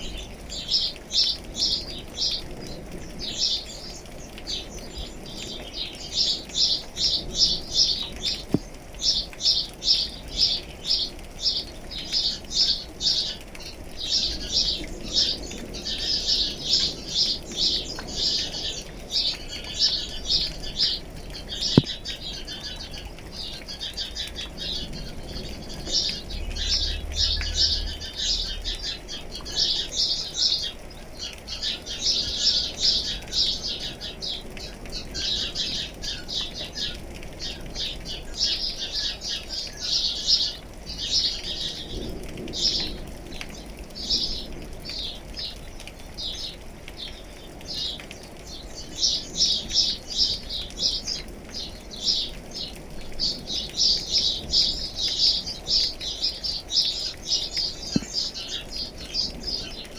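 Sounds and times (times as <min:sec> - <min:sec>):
light rain: 0:00.0 - 0:59.9
songbirds chirping: 0:00.0 - 0:59.9.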